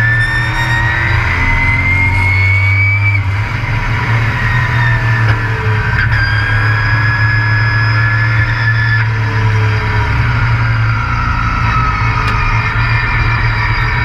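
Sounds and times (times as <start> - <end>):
high engine whine: 0.0 - 14.0
race truck engine running hard: 0.0 - 14.0.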